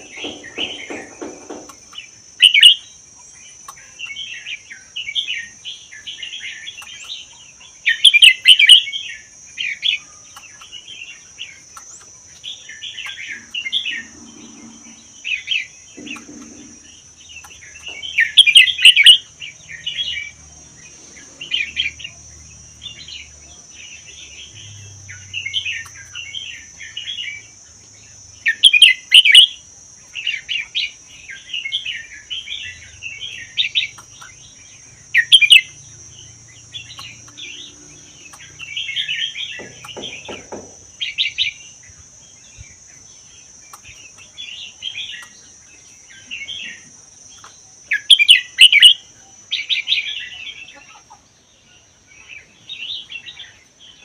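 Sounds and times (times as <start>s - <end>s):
bird singing warbled phrases: 0.0s - 54.0s.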